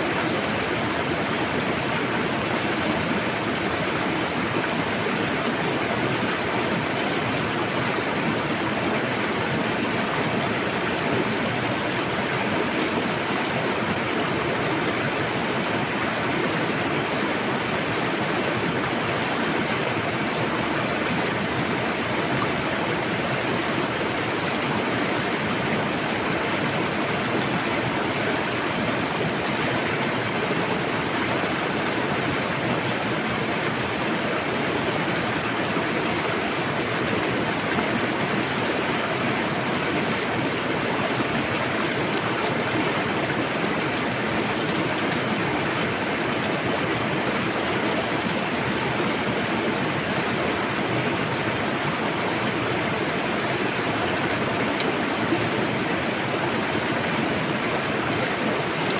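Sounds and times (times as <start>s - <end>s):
river rushing over rocks: 0.0s - 58.9s.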